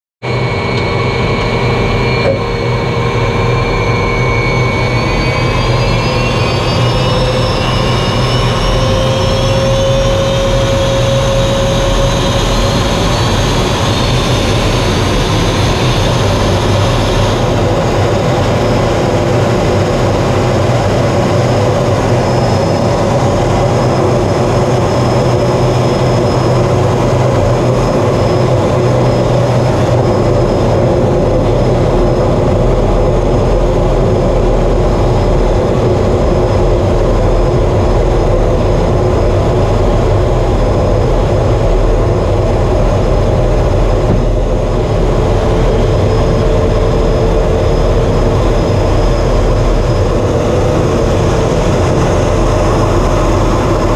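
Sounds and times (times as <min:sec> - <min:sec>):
jet engine rumble: 0:00.2 - 0:53.9
turbine whine rising: 0:00.2 - 0:53.9.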